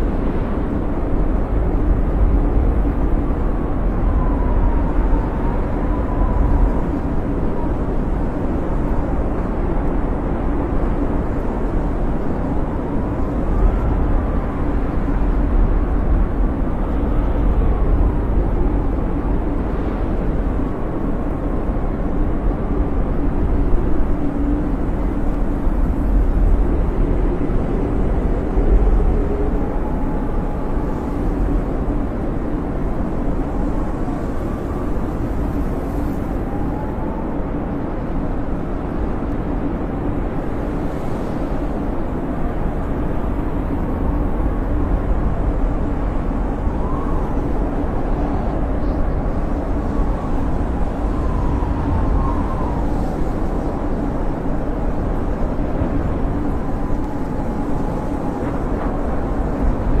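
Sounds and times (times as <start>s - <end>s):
wind howling: 0.0s - 60.0s.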